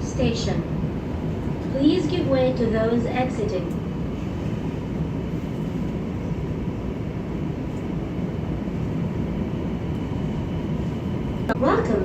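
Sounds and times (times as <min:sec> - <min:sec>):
train car rumble and hum: 0:00.0 - 0:12.0.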